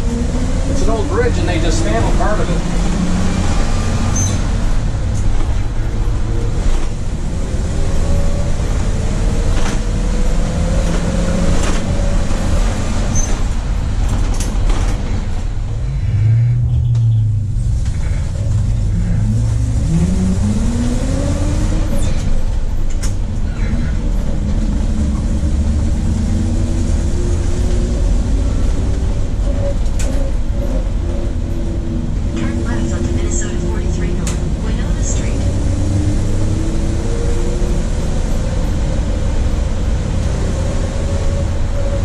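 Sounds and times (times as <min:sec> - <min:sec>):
bus engine and road noise: 0:00.0 - 0:42.0.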